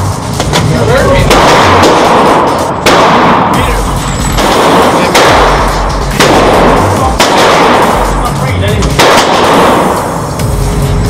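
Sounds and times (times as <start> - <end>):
background music with bass: 0.0 - 11.0
gunshots: 0.2 - 10.4.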